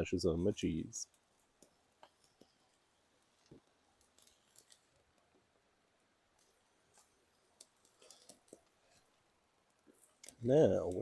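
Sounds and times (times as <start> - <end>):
campfire ticks and crackles: 0.0 - 11.0.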